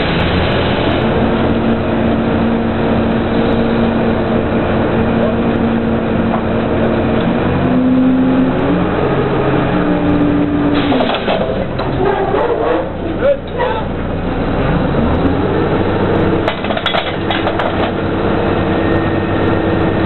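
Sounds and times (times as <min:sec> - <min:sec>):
drilling rig engine hum: 0:00.0 - 0:20.0.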